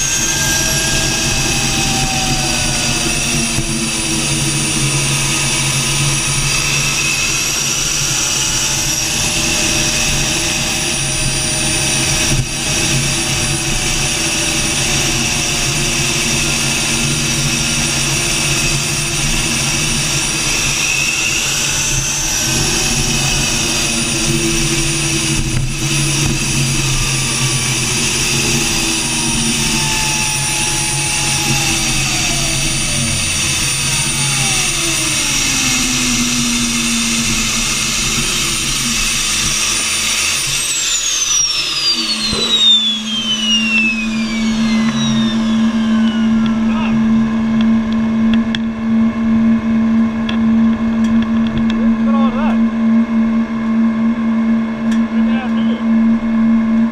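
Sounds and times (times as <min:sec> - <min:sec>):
turbine engine whine: 0:00.0 - 0:56.9.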